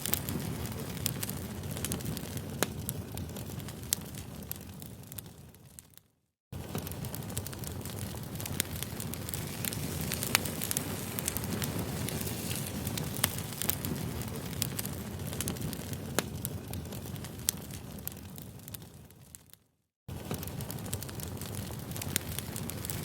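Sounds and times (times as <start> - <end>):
wood fire crackling: 0.0 - 6.0, 6.6 - 23.0.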